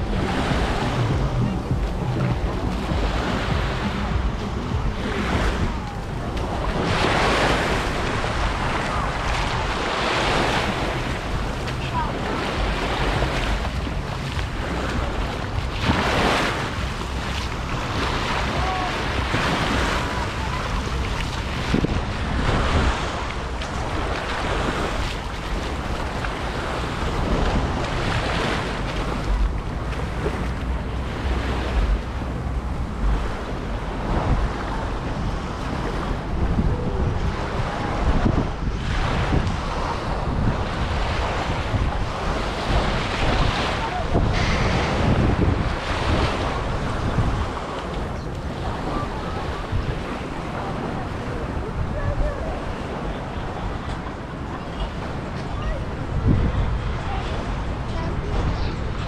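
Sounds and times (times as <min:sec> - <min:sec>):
waves washing onto beach: 0:00.0 - 0:59.0
wind buffeting microphone: 0:00.0 - 0:59.0.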